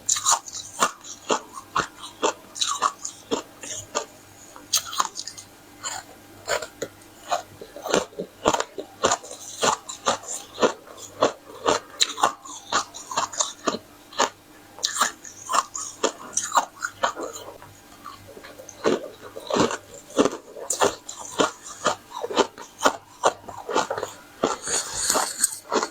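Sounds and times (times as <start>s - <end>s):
crunching crisp flatbread: 0.1s - 25.9s.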